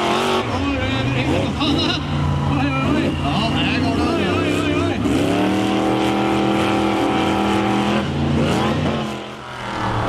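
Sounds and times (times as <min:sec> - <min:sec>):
monster truck engine revving: 0:00.0 - 0:10.0.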